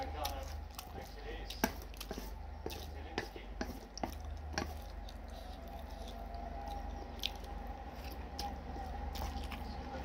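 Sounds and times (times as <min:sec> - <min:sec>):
steady low hum: 0:00.0 - 0:10.0
wet chewing and slurping: 0:00.0 - 0:10.0.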